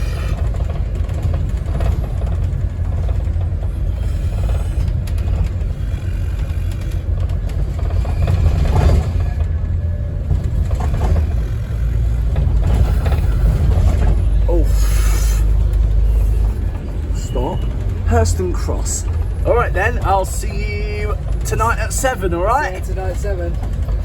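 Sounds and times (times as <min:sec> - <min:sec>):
bus diesel engine rumble: 0:00.0 - 0:24.0
road noise: 0:00.0 - 0:24.0.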